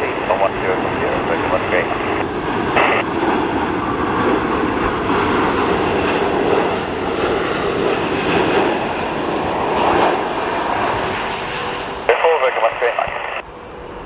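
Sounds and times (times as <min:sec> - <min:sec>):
jet airliner engines rushing: 0:00.0 - 0:14.0.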